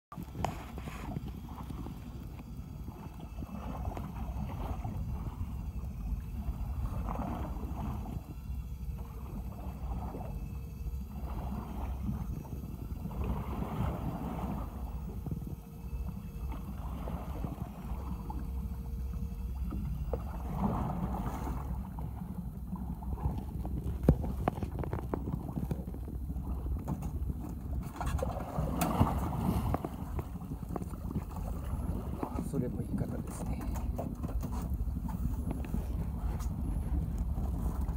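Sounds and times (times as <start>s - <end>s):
boat engine idling: 0.1s - 37.9s
waves slapping against hull: 0.1s - 37.9s.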